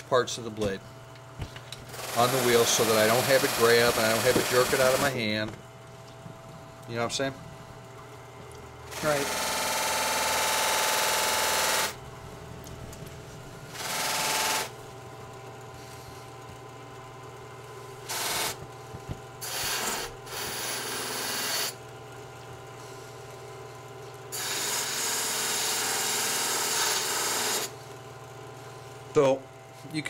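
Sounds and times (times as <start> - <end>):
buffer motor humming: 0.0 - 30.0.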